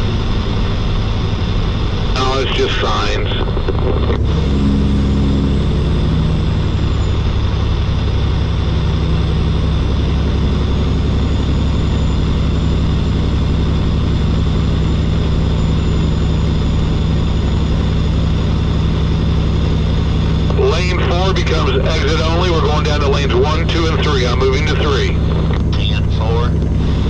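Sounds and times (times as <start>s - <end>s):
truck diesel engine droning: 0.0s - 27.0s.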